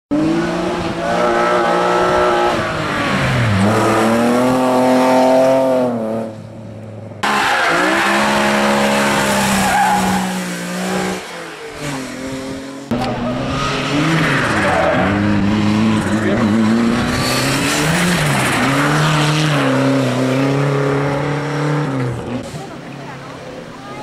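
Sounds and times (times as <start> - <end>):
racing car engines revving: 0.1 - 24.0.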